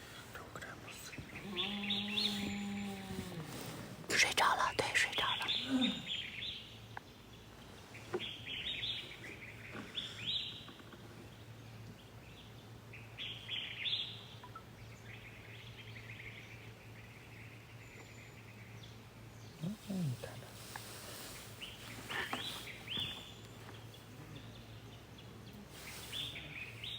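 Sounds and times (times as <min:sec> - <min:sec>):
faint low hum: 0:00.0 - 0:26.9
small birds chirping: 0:00.0 - 0:26.9.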